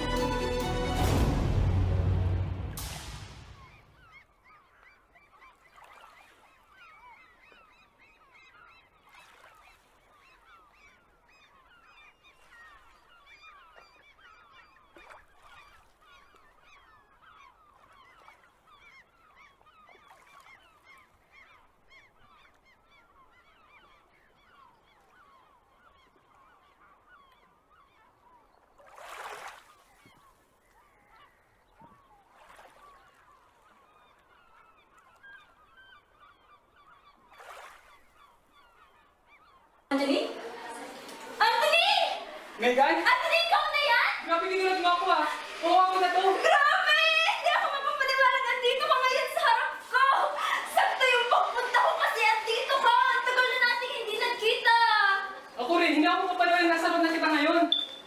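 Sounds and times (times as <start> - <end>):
flock of birds chirping: 3.5 - 29.0, 29.6 - 58.0.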